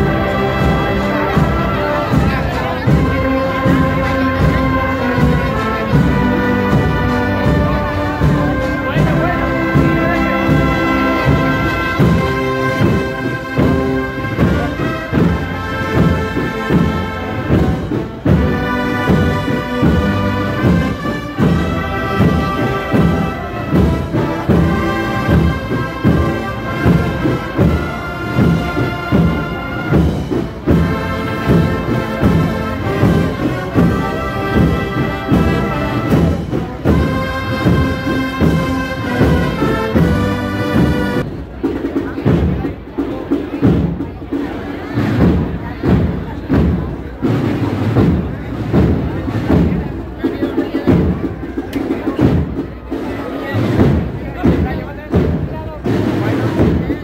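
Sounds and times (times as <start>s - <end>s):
brass band playing slow march: 0.0s - 57.0s
drum beat: 0.0s - 57.0s.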